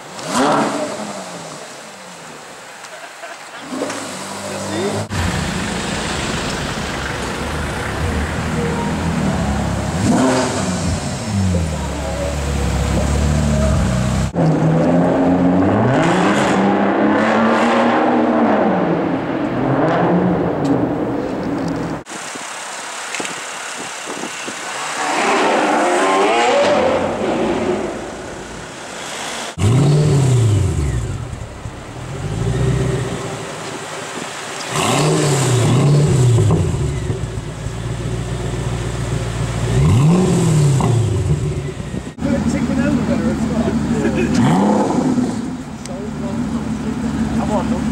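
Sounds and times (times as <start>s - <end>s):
sports car accelerating: 3.6s - 22.0s, 24.6s - 47.9s.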